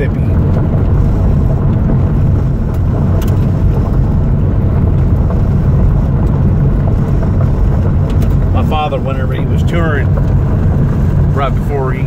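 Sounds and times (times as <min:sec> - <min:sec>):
car engine and tyres on gravel: 0:00.0 - 0:12.0.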